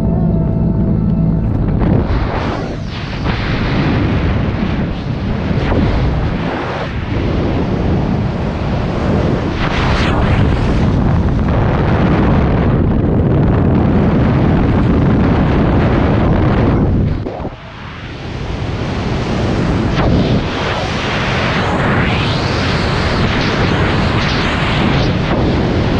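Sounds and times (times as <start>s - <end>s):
wind blasting over microphone: 0.0s - 25.9s.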